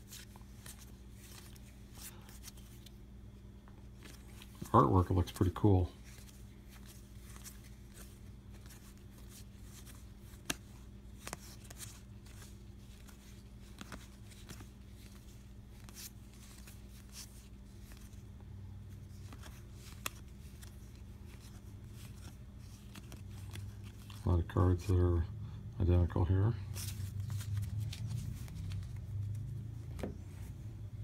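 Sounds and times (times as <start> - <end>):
cards rustling and clicking: 0.0 - 24.9, 26.6 - 30.9
low steady hum: 0.0 - 31.0.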